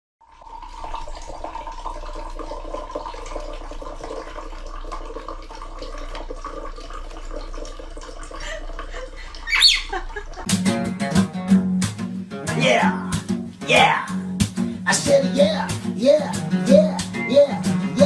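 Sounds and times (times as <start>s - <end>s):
water running: 0.2s - 10.5s, 11.8s - 18.0s.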